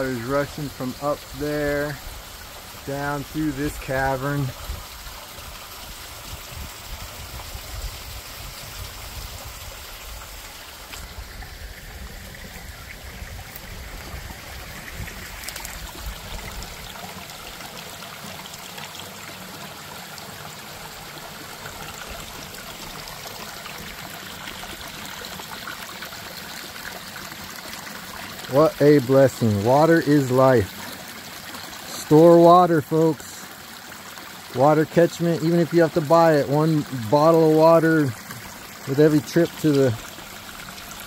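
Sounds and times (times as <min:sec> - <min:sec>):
creek water rushing over stones: 0:00.0 - 0:41.0.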